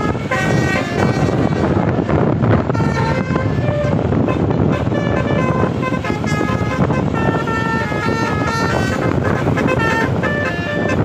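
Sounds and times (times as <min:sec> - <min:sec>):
musical bus air horn: 0:00.0 - 0:11.0
steady noisy rumble: 0:00.0 - 0:11.0.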